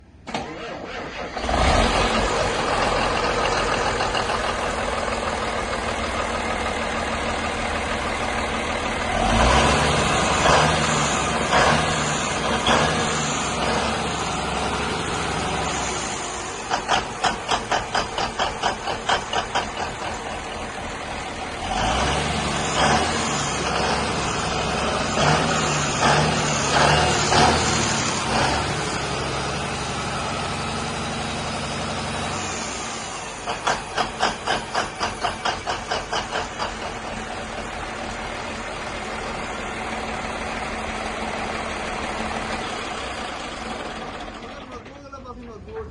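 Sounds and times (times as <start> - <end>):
diesel engine starting and revving: 0.0 - 45.9.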